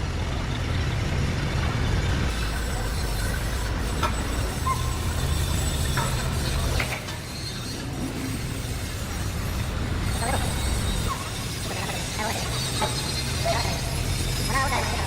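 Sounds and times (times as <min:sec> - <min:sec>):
low machinery rumble: 0:00.0 - 0:15.0
high squeaks: 0:02.3 - 0:15.0.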